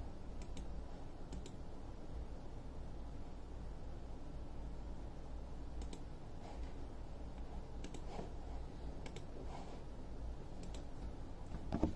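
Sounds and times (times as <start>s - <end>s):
low hum and hiss: 0.0s - 11.9s.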